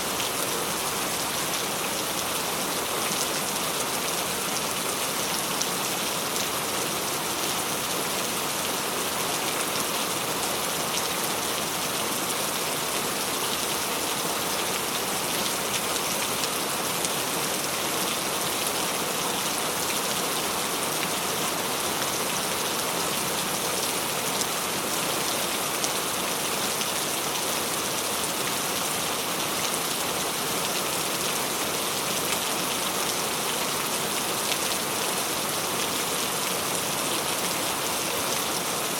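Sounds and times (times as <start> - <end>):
rain pattering on a surface: 0.1 - 38.9.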